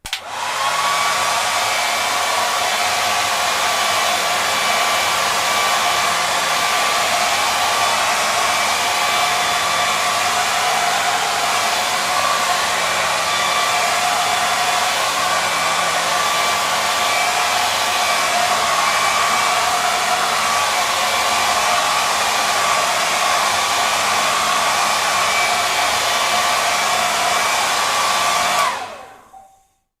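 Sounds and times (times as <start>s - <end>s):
hair dryer running: 0.0s - 29.4s.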